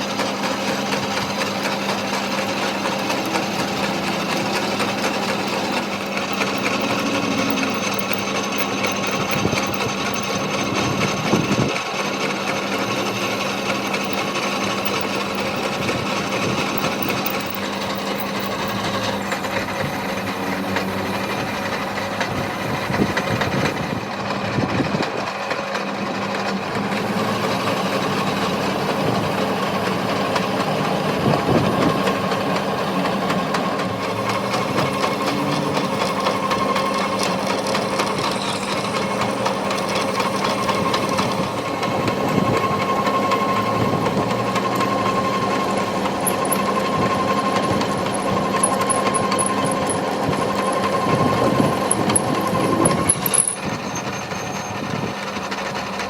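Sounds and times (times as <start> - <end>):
workshop machine running: 0.0 - 56.0.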